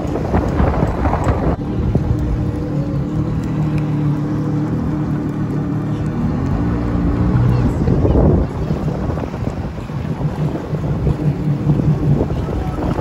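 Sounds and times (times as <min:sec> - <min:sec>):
wind noise on microphone: 0:00.0 - 0:03.6, 0:05.2 - 0:13.0
jet ski engine idling: 0:00.0 - 0:13.0.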